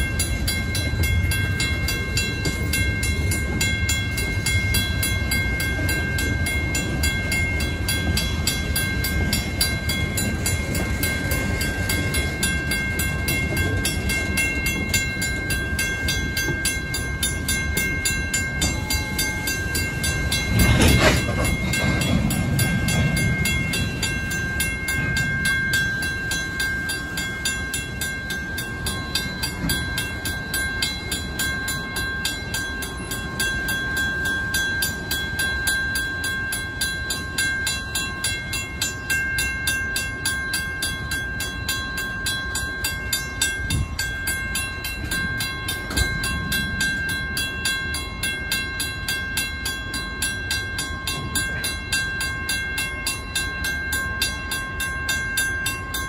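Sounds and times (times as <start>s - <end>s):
crossing bell ringing: 0.0s - 56.0s
freight train rumbling: 0.0s - 56.0s.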